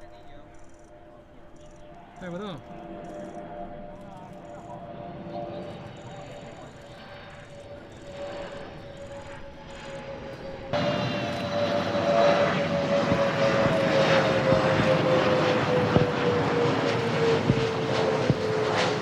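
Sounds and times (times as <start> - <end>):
aircraft engines overhead: 0.0 - 19.0.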